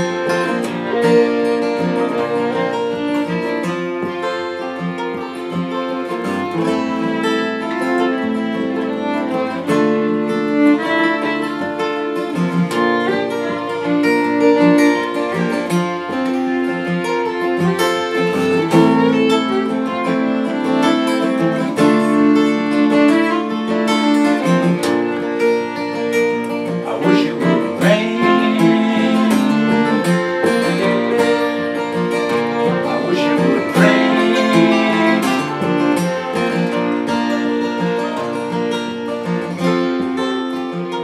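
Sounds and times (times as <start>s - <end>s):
acoustic guitars strumming: 0.0s - 41.0s
fiddle playing: 0.0s - 41.0s.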